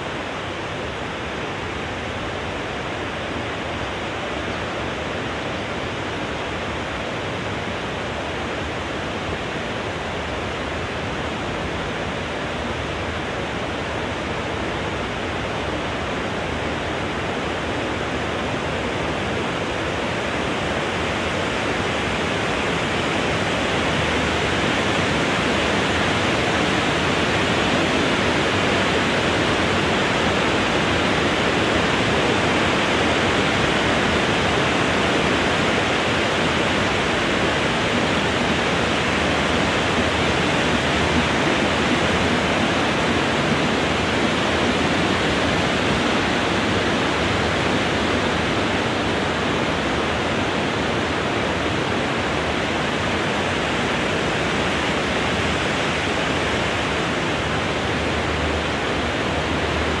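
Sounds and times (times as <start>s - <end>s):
wind blowing through trees: 0.0s - 60.0s.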